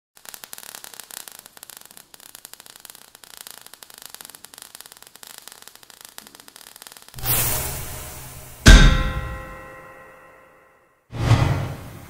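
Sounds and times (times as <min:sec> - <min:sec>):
sparks fizzing crackle: 0:00.2 - 0:10.1.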